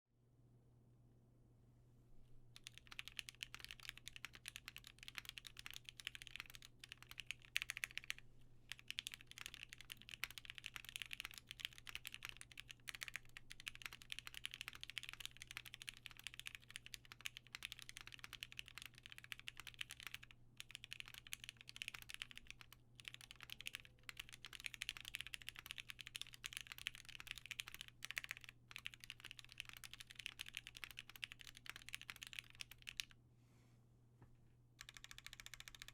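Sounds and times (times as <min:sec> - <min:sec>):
mechanical keyboard typing: 0:02.6 - 0:33.1, 0:34.8 - 0:35.9.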